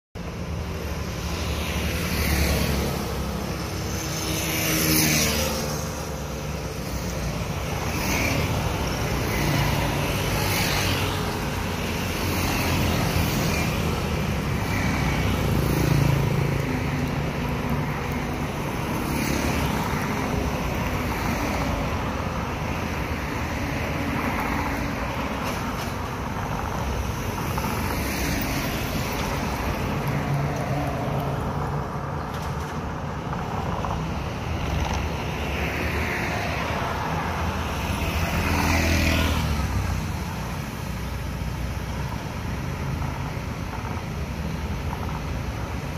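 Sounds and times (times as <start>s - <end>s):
steady traffic hum: 0.2s - 45.9s
vehicles passing by: 0.2s - 45.9s.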